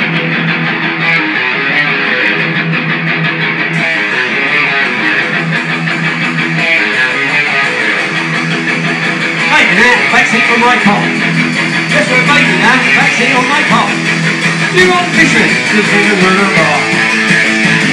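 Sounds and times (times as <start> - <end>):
strummed guitar rock music: 0.0 - 17.9.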